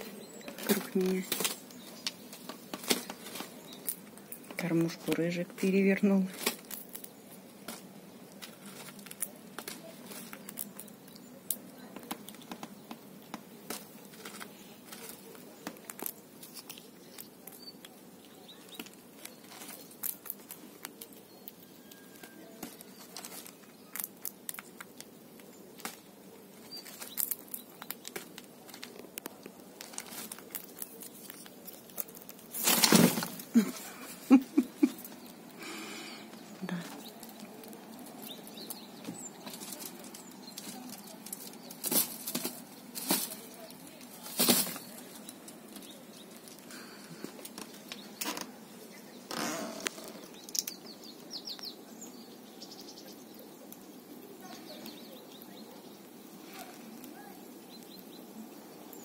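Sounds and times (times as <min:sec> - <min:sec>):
rustle: 0:00.0 - 0:59.0
squirrel cracking seed shells: 0:00.0 - 0:59.0.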